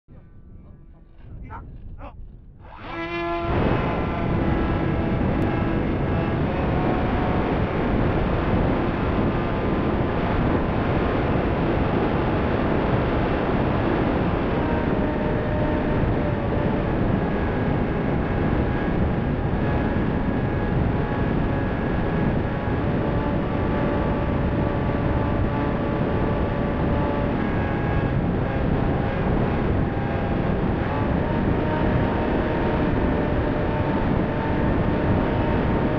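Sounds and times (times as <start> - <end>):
electric motor and propeller hum: 0.1 - 35.9
wind rushing over microphone: 0.1 - 35.9.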